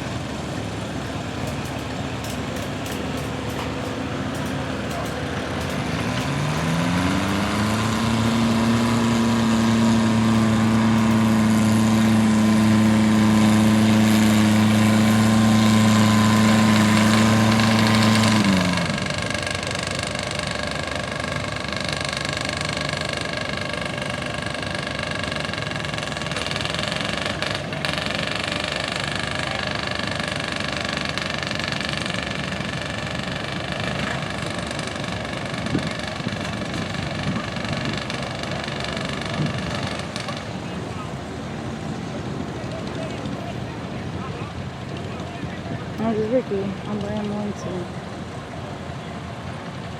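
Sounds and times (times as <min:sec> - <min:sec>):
tractor engine revving: 0:00.0 - 0:48.7
quieter engine running: 0:00.0 - 0:49.9.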